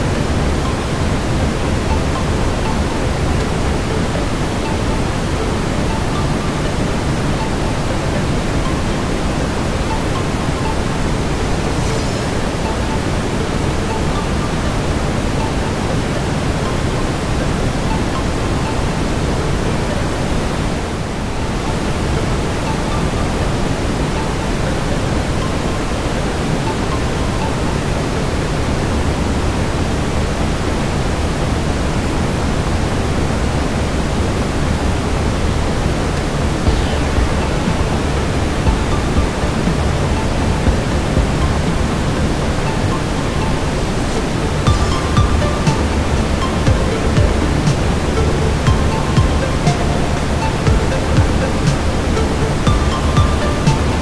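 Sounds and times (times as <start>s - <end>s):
brown noise rushing hiss: 0.0s - 54.0s.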